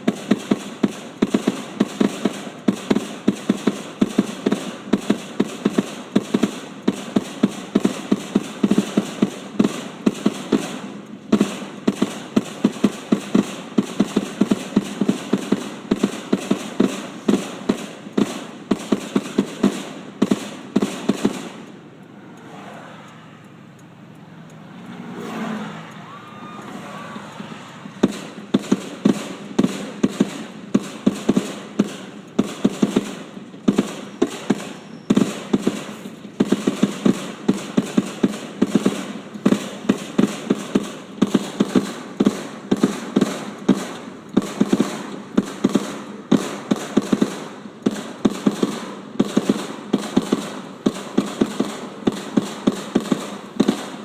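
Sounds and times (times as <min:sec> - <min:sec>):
fireworks crackling pops: 0:00.0 - 0:23.3, 0:27.3 - 0:54.0.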